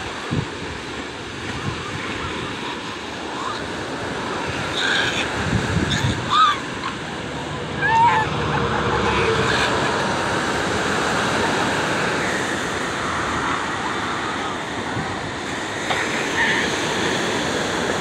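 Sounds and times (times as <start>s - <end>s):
ocean surf breaking on beach: 0.0s - 18.0s.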